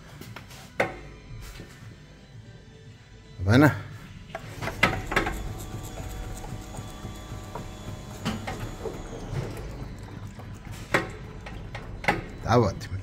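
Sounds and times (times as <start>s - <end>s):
workshop background: 0.0s - 13.0s.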